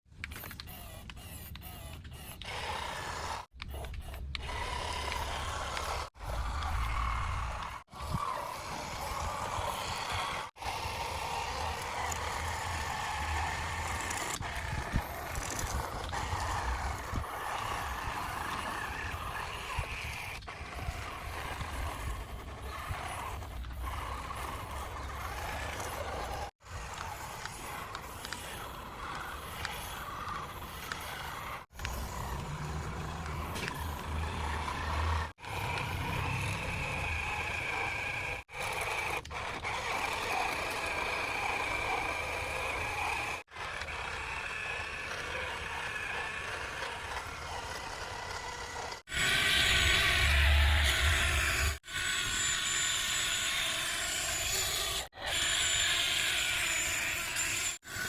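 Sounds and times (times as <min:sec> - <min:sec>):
toy electric motors whirring: 0:00.1 - 0:58.0.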